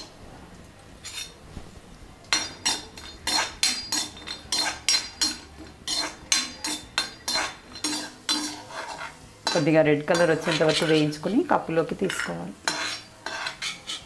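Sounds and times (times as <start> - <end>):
metal spoon scraping metal pan: 1.0 - 1.4, 2.3 - 14.0.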